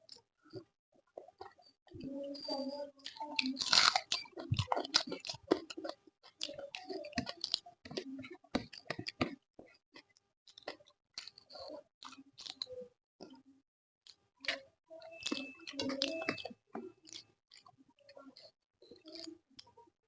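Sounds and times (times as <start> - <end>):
wet chewing with lip smacking: 1.2 - 13.4, 14.1 - 19.8.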